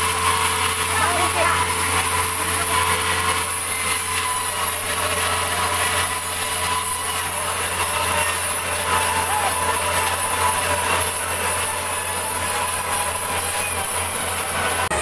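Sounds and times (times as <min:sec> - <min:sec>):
sawmill saw cutting log: 0:00.0 - 0:15.0.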